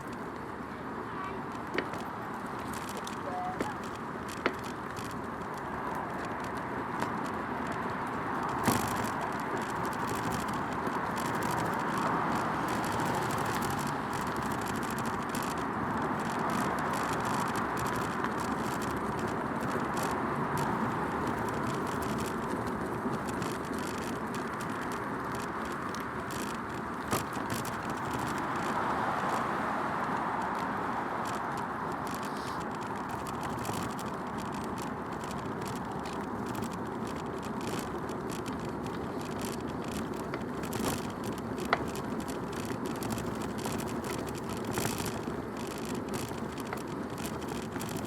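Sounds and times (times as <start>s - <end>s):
bike frame rattling: 0.0s - 0.7s, 1.5s - 48.0s
bicycle tyre noise: 0.0s - 48.0s
bike jolting over bumps: 0.0s - 48.0s.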